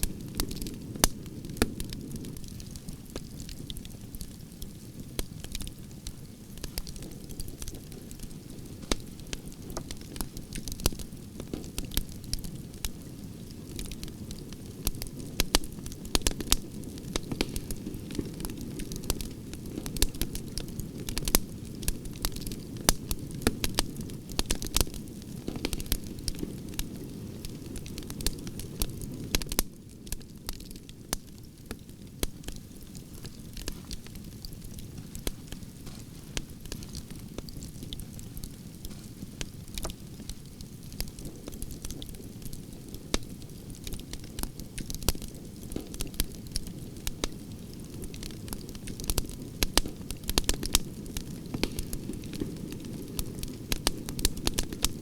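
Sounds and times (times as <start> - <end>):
campfire crackling: 0.0 - 55.0
low rumble of flame: 0.0 - 55.0.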